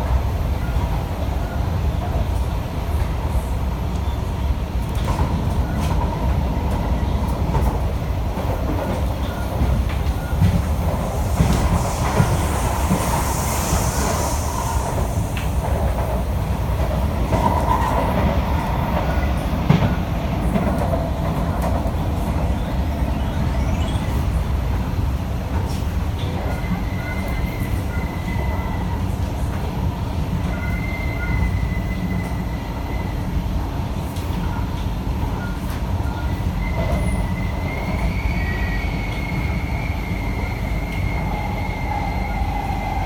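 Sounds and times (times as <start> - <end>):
train rumble inside car: 0.0 - 43.0.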